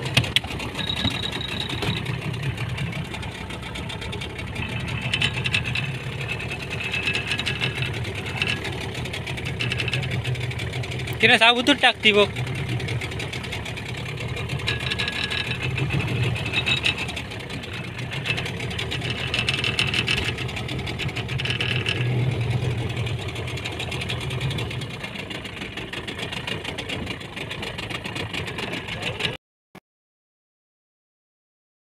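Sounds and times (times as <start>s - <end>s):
boat engine idling: 0.0s - 29.4s.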